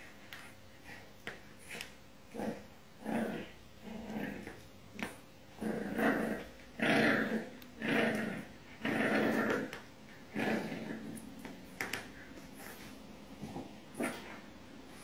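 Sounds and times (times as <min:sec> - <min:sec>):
puppy growling: 0:01.6 - 0:15.0.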